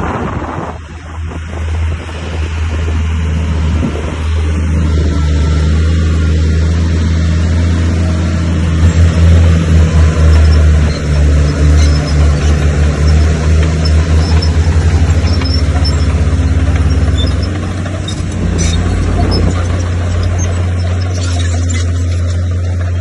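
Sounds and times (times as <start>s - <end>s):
bulldozer diesel engine throbbing: 0.0s - 23.0s.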